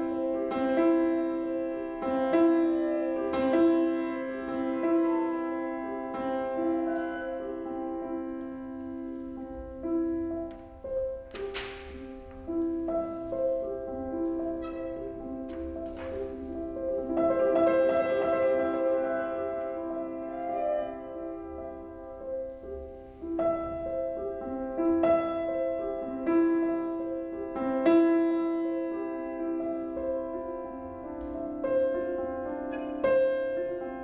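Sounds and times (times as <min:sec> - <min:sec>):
piano trio chamber music: 0:00.0 - 0:34.0.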